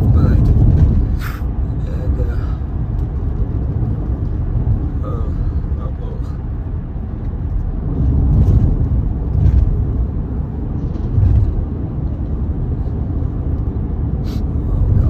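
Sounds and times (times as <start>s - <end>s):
car rumbling while moving: 0.0s - 15.0s.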